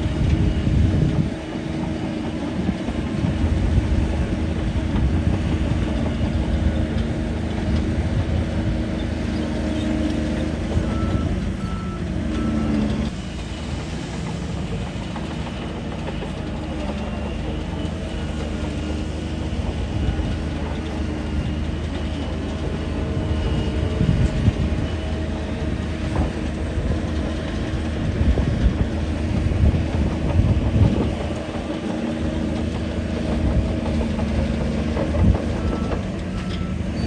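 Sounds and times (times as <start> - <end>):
bulldozer diesel engine running: 0.0 - 37.0
crawler tracks clanking: 0.0 - 37.0.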